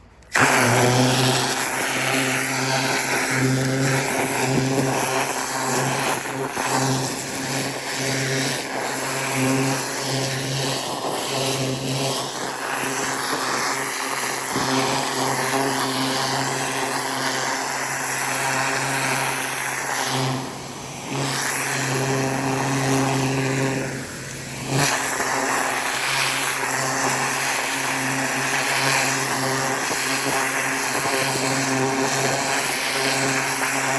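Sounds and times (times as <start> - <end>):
pressure washer engine hum: 0.0 - 33.9
high-pressure spray hissing: 0.3 - 33.9.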